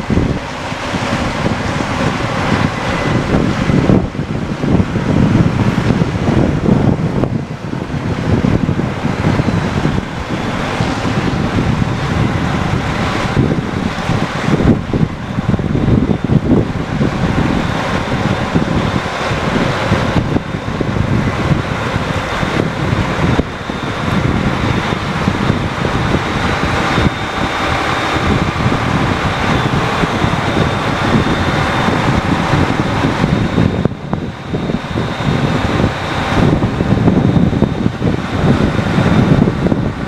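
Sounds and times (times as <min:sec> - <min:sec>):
faint steady whine: 0:00.0 - 0:40.0
tractor engine running: 0:00.0 - 0:40.0
wind buffeting microphone: 0:00.0 - 0:40.0.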